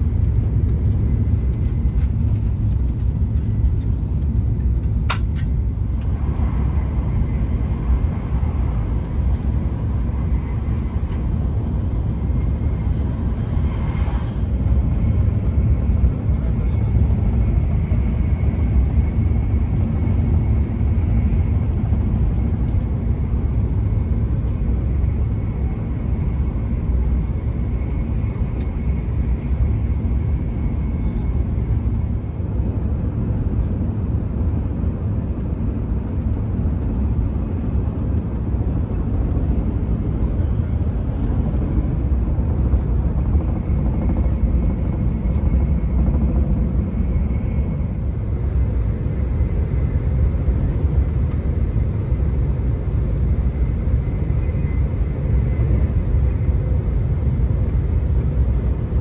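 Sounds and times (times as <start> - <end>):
faint high whine: 0.0 - 59.0
train rumble inside cabin: 0.0 - 59.0.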